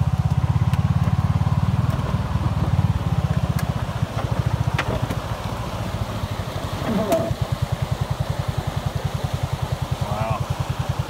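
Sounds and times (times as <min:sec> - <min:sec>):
utility vehicle engine throbbing: 0:00.0 - 0:11.0.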